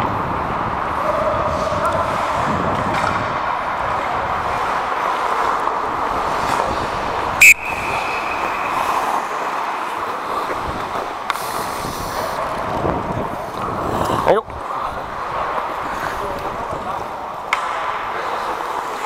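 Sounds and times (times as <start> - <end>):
skates on ice: 0.1 - 19.0.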